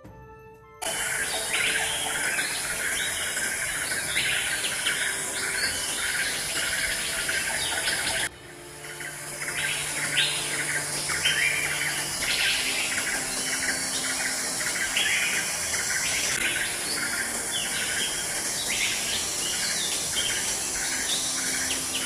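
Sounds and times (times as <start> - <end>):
steady high hiss: 0.8 - 22.0
wild birds chirping: 0.8 - 22.0.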